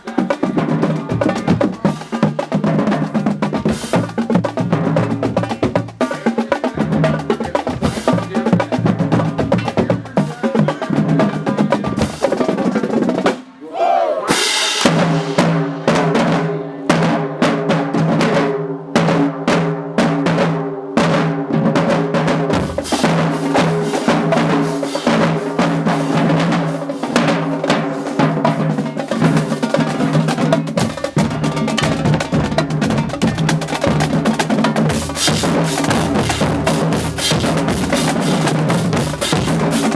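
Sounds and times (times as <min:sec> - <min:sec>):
snare and bass drums: 0:00.0 - 0:13.5, 0:14.3 - 0:39.9.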